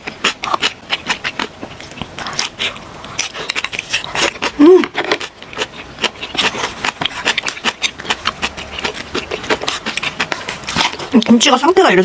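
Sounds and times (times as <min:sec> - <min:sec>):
chewing with wet clicks and crunches: 0:00.0 - 0:11.8.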